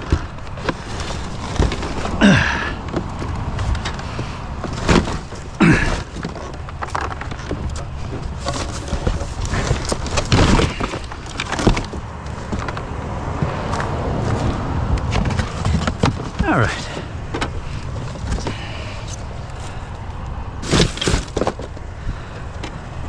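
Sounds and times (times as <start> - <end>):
knocking and scraping: 0.0 - 23.0
plastic creaking cracks: 0.0 - 23.0.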